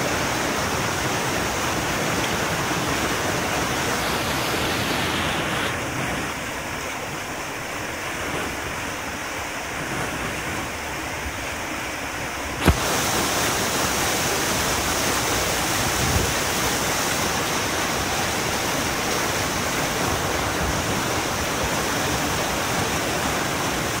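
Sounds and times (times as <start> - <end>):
river rapid rushing: 0.0 - 24.0.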